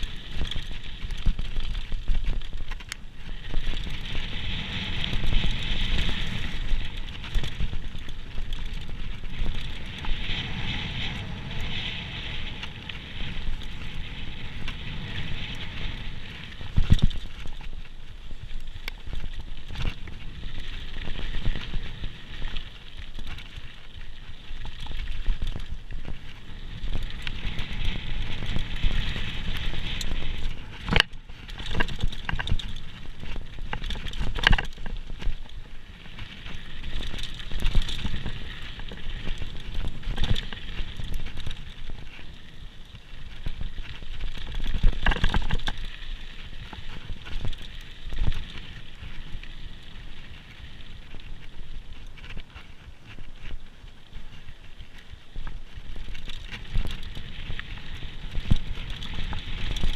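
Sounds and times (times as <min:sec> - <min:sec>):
mountain bike rattling on rough trail: 0:00.0 - 0:59.9.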